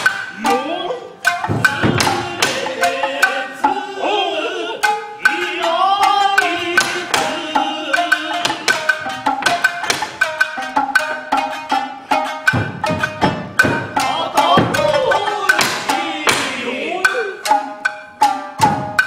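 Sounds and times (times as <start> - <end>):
plucked shamisen notes: 0.0 - 19.0
sharp percussive strikes: 0.0 - 19.0.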